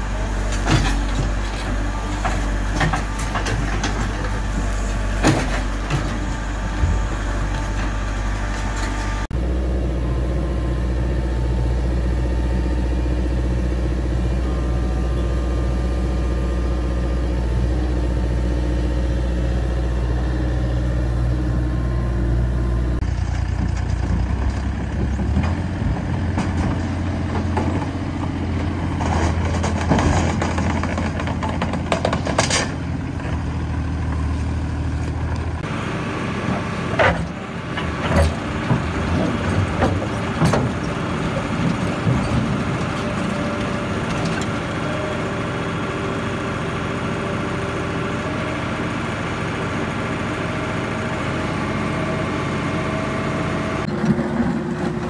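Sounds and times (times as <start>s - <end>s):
diesel engines running: 0.0s - 55.0s.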